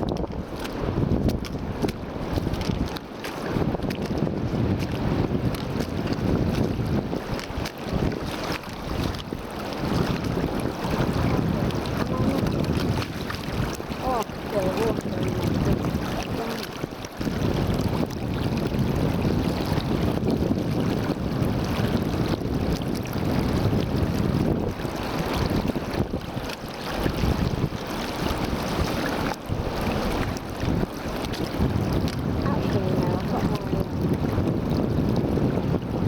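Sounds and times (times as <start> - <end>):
stream water rushing and splashing: 0.0 - 36.0
wind buffeting microphone: 0.0 - 36.0.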